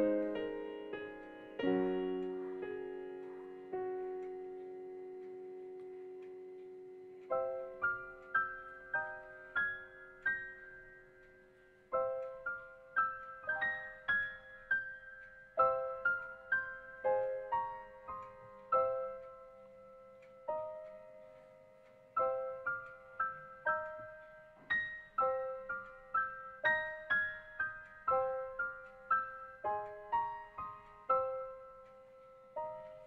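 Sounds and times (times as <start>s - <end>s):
soft piano music: 0.0s - 33.0s.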